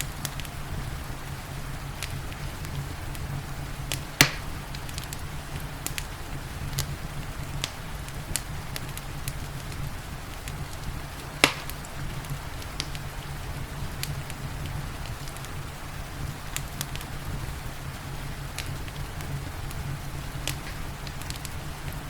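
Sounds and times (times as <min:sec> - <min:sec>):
loud fire pops: 0:00.0 - 0:22.0
rain hiss: 0:00.0 - 0:22.0
wood fire crackling: 0:00.0 - 0:22.0.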